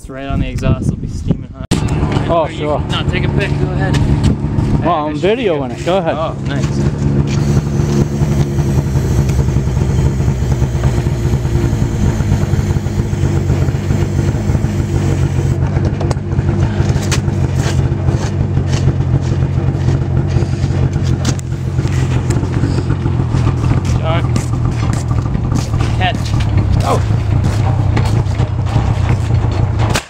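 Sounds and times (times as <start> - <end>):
engine idling: 1.8 - 30.0.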